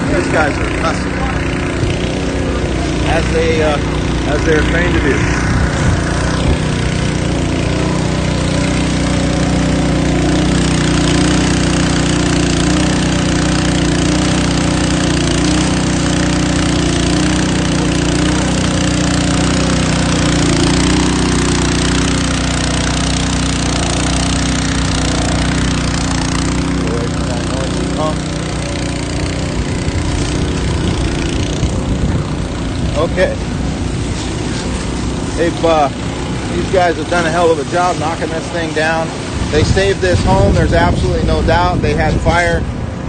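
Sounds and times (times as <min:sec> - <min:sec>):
loud rushing water: 0:00.0 - 0:43.0
water pump engine running: 0:00.0 - 0:43.0.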